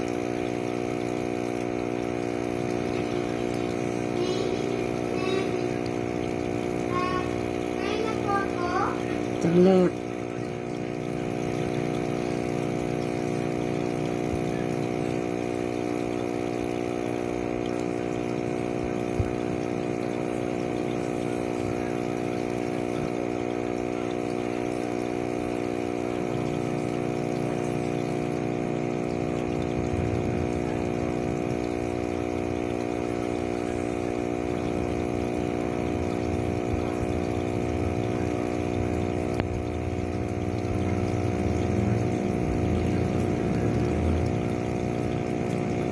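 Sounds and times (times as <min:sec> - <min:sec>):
steady machine hum: 0:00.0 - 0:45.9.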